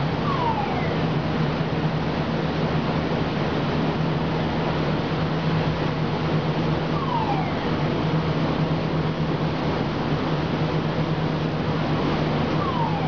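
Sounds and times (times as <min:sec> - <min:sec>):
conveyor low hum: 0:00.0 - 0:13.0.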